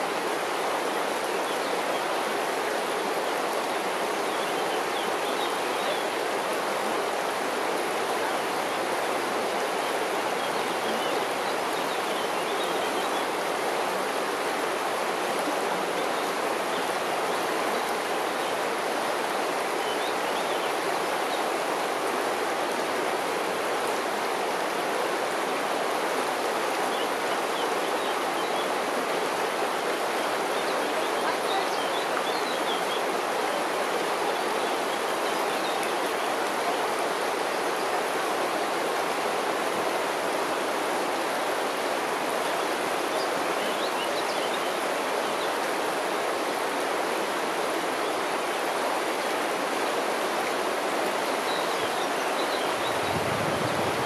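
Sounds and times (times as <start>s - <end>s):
river babbling over stones: 0.0s - 54.0s.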